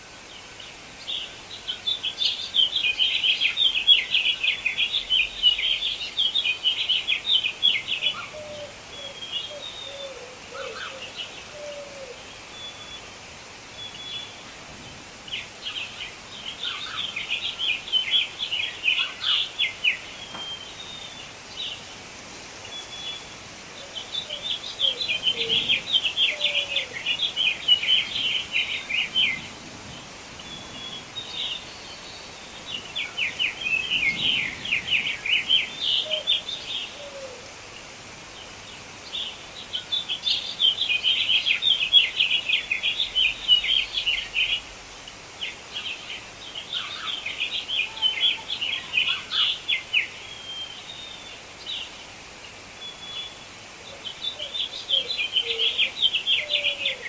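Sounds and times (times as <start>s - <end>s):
faint background hiss: 0.0s - 57.0s
songbird chirping: 0.0s - 57.0s.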